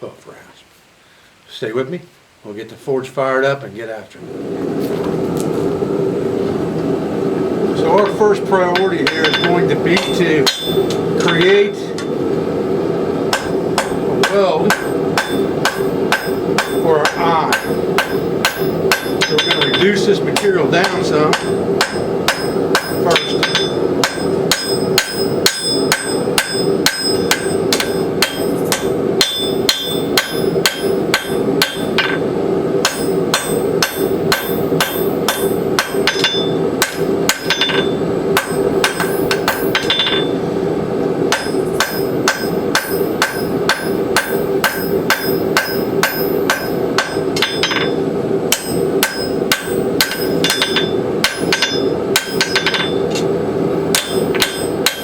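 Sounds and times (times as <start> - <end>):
steady hum: 0.0 - 55.0
hammer ringing on anvil: 7.9 - 12.2, 13.3 - 40.4, 41.3 - 53.3, 53.9 - 55.0.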